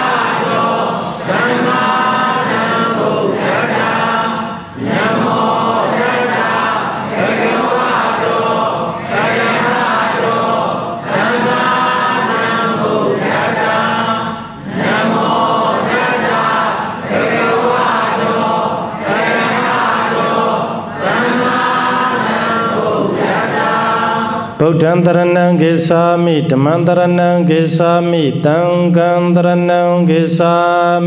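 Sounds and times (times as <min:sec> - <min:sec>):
group chanting in unison: 0:00.0 - 0:31.0.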